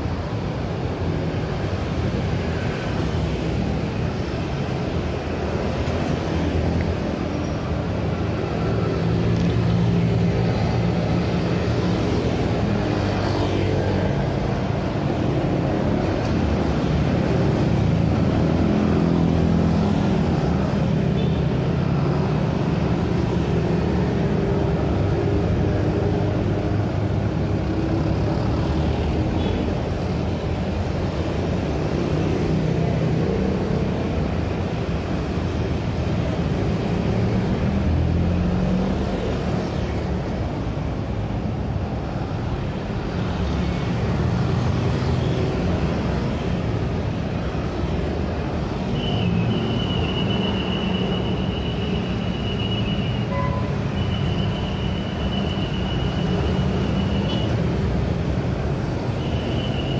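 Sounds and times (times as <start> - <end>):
scooters and cars passing: 0.0 - 59.9.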